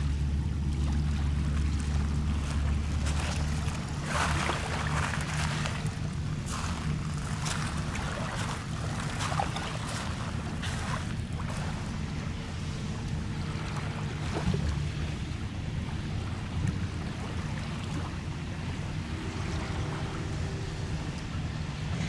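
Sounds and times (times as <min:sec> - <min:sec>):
waves lapping on pebbles: 0:00.0 - 0:22.0
wind rumbling on microphone: 0:00.0 - 0:22.0.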